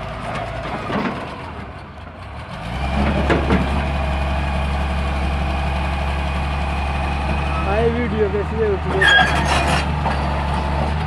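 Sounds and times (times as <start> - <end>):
heavy diesel excavator engine: 0.0 - 11.0.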